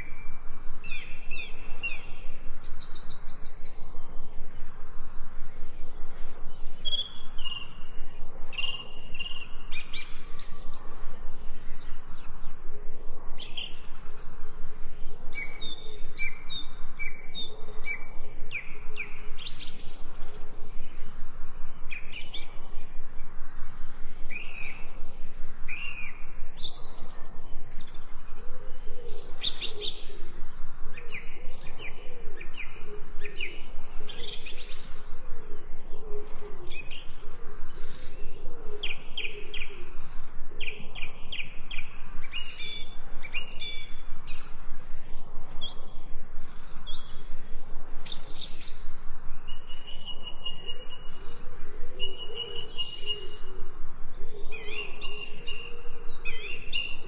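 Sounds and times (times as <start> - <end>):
birds chirping and singing: 0.0 - 47.4, 48.0 - 57.0
lower repeated bird calls: 0.0 - 57.0.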